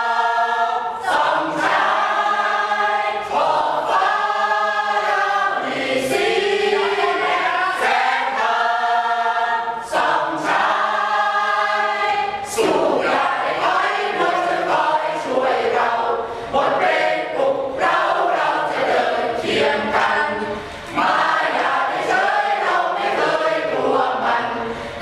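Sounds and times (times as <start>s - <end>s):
mixed choir singing unaccompanied: 0.0s - 25.0s.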